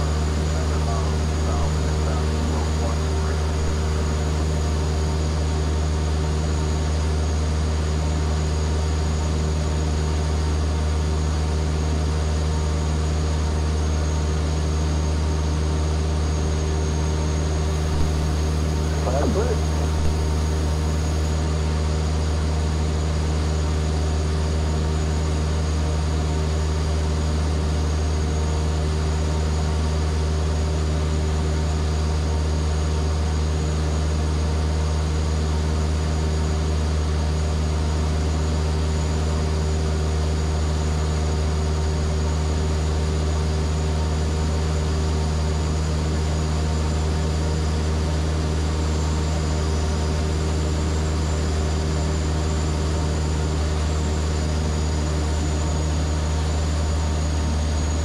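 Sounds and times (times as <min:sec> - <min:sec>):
propeller aircraft engine drone: 0:00.0 - 0:58.0.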